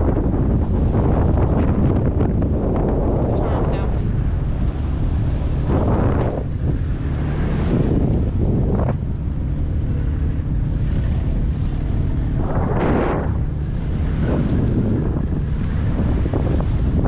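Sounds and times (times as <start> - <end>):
boat motor humming: 0.0 - 17.0
rush of wind or water: 0.0 - 17.0
wind buffeting microphone: 0.0 - 17.0.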